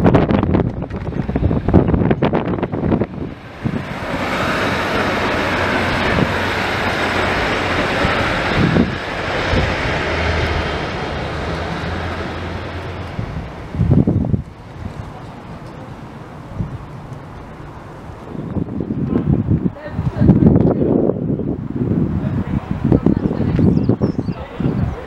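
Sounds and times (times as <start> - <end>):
broad rushing noise: 0.0 - 25.0
train diesel engine drone: 0.0 - 25.0
wind buffeting microphone: 0.0 - 25.0.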